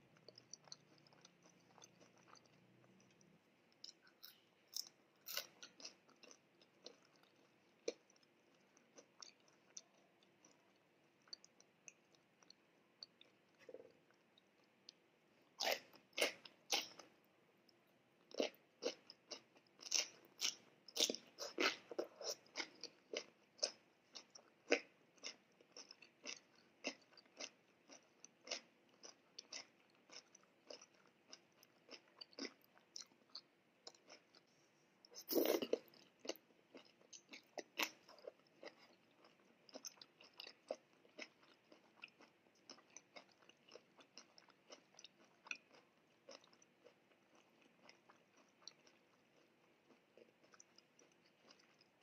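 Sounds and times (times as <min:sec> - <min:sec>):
person chewing crunchy food: 0:00.1 - 0:17.2, 0:18.3 - 0:52.0.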